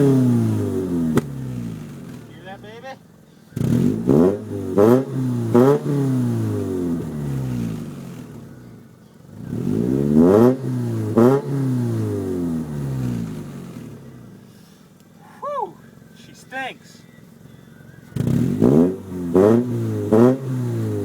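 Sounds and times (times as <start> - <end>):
car engine revving: 0.0 - 15.2, 15.9 - 21.0.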